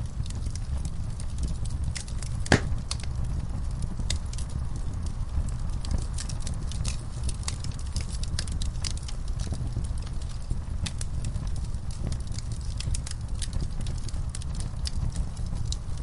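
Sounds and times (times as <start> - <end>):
campfire wood crackling: 0.0 - 16.0
low fire rumble: 0.0 - 16.0.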